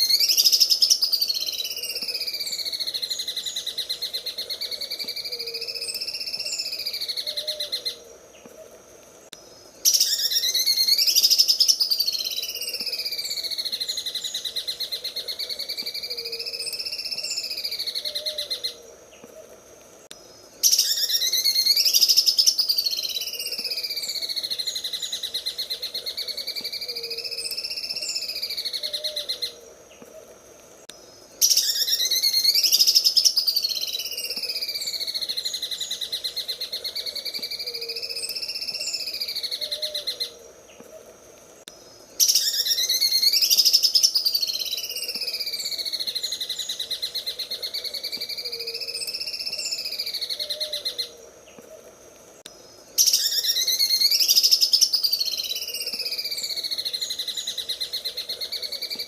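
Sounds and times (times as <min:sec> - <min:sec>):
bird singing rapid rattling song: 0:00.0 - 0:07.9, 0:09.4 - 0:18.7, 0:20.1 - 0:30.1, 0:31.0 - 0:40.3, 0:41.6 - 0:51.1, 0:52.5 - 0:59.0.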